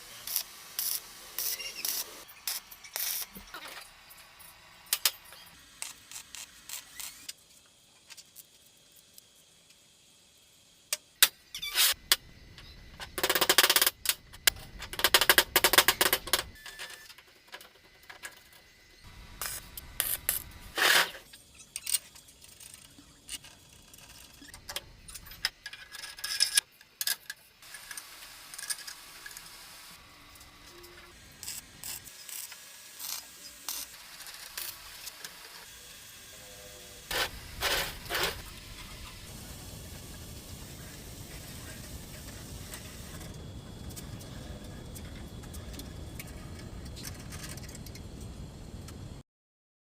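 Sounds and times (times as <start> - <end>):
welding arc crackling and buzzing: 0.0 - 25.7, 27.6 - 49.2.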